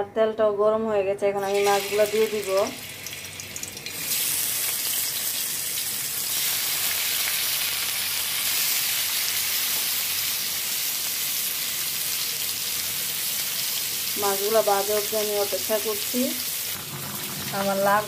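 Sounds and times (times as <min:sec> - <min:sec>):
fish sizzling in hot oil: 0:01.5 - 0:18.0.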